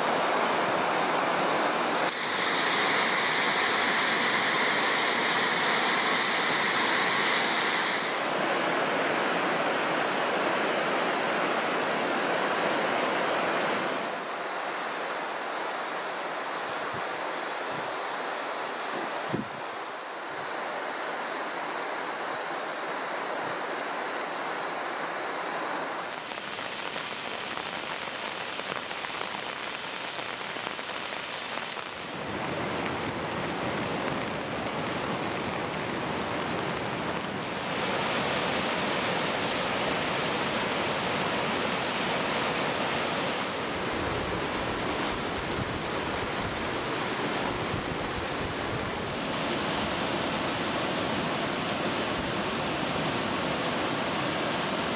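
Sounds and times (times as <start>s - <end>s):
fast river water rushing: 0.0s - 54.9s.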